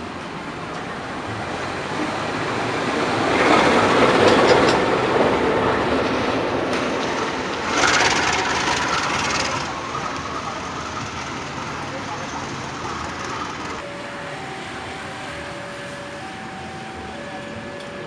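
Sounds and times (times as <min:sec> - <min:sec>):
diesel locomotive engine: 0:00.0 - 0:18.0
wheels on rails: 0:00.7 - 0:18.0.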